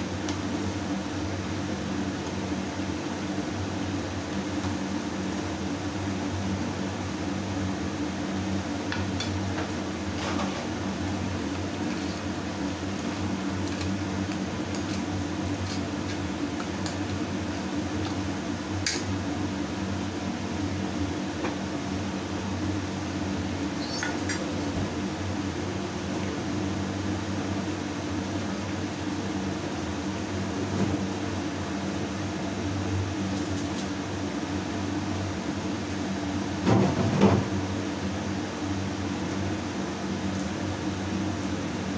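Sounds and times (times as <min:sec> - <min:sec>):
electric fan humming: 0:00.0 - 0:41.9.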